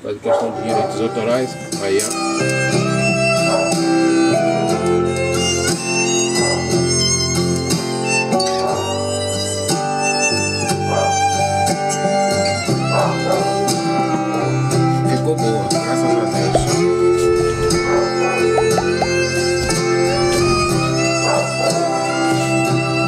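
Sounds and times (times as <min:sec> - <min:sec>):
music from speaker: 0:00.4 - 0:23.0.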